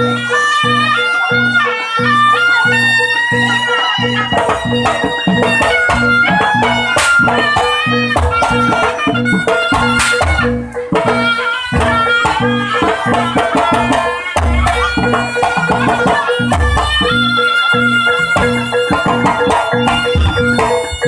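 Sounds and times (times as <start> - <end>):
drum and gong-chime beat: 0.0 - 21.0
reedy wind melody: 0.0 - 21.0.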